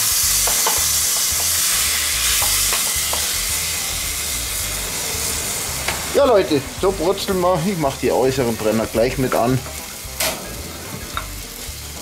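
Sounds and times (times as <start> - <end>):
meat sizzling in a tray: 0.0 - 12.0.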